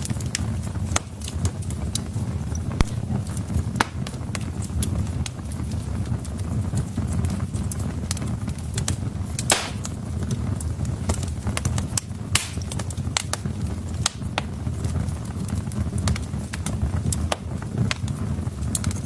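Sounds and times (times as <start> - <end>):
loud fire pops: 0.0 - 19.0
wood fire crackling: 0.0 - 19.0.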